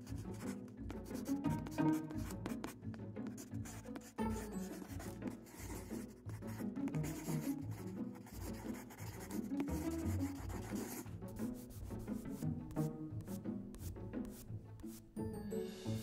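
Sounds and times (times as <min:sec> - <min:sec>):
scratchy drawing on paper: 0:00.0 - 0:15.2
low background music: 0:00.0 - 0:16.0.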